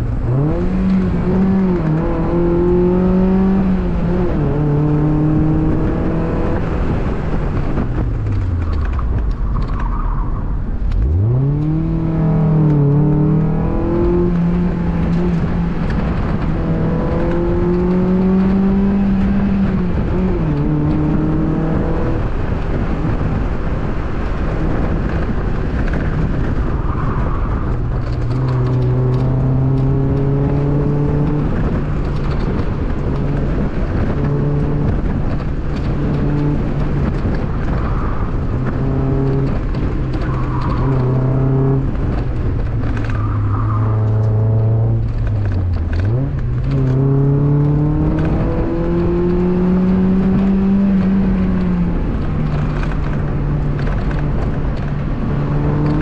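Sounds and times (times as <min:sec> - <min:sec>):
car engine accelerating: 0:00.0 - 0:56.0
road and tyre noise: 0:00.0 - 0:56.0.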